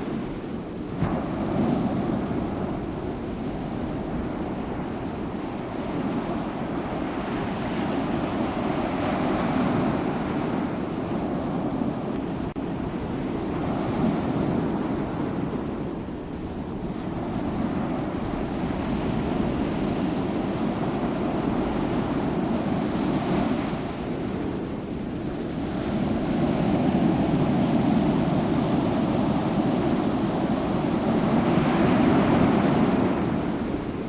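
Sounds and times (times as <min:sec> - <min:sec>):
sea surf washing in: 0:00.0 - 0:34.0.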